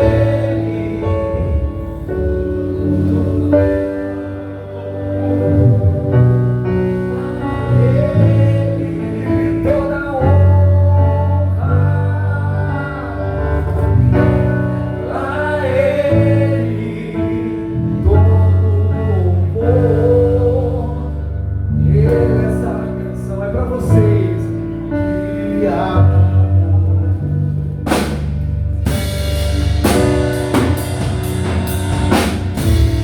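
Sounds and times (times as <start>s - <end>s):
person singing: 0.0s - 27.9s
bass: 0.0s - 33.0s
keyboard chords: 0.0s - 33.0s.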